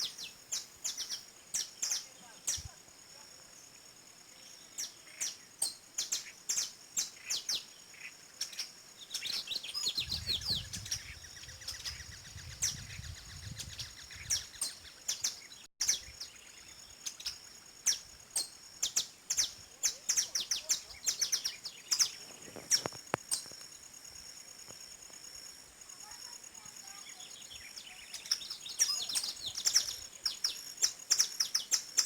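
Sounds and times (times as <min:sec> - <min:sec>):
birds chirping: 0:00.0 - 0:02.8, 0:04.3 - 0:23.6, 0:25.8 - 0:32.0.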